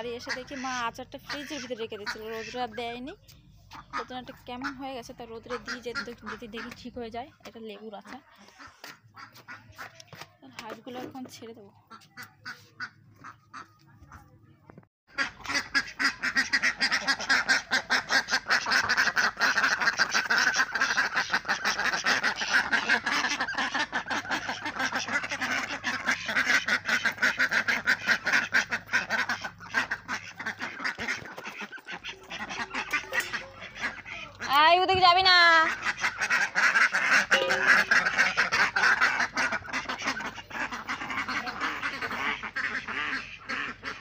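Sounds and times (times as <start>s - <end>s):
ducks quacking: 0.0s - 14.4s, 15.1s - 44.0s.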